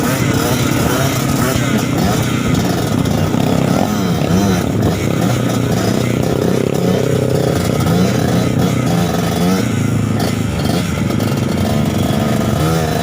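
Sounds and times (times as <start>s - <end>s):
trail motorcycle engine revving: 0.0s - 13.0s.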